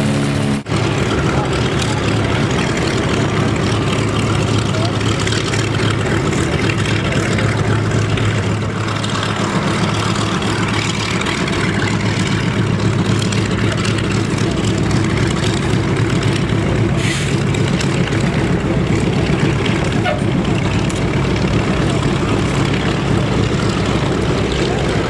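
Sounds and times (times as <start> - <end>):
bomber engines taxiing: 0.0 - 25.0
propeller turning close by: 0.0 - 25.0.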